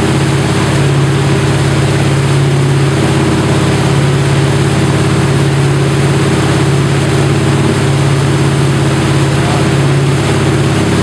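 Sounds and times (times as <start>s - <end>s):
boat engine droning: 0.0s - 11.0s
rushing wake water: 0.0s - 11.0s.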